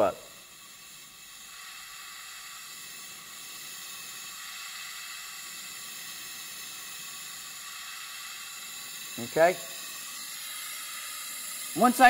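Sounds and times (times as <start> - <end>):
oxygen hissing through mask: 0.0 - 12.0.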